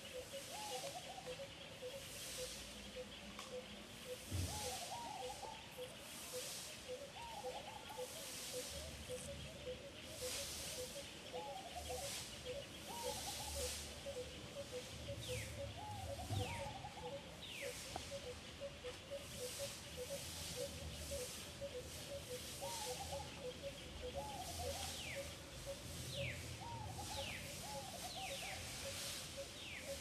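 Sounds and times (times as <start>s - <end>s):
high insect-like hiss: 0.1s - 26.2s, 26.8s - 30.0s.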